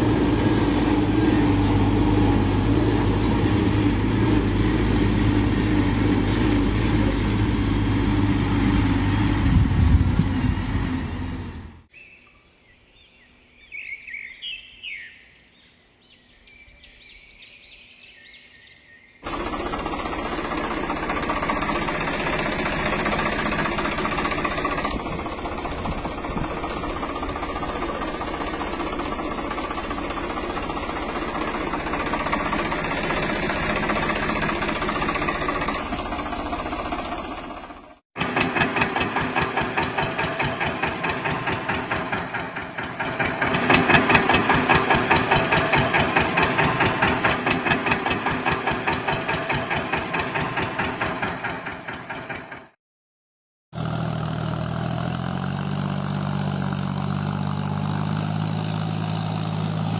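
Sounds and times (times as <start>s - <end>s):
engine running: 0.0s - 11.9s, 19.2s - 52.8s, 53.8s - 59.9s.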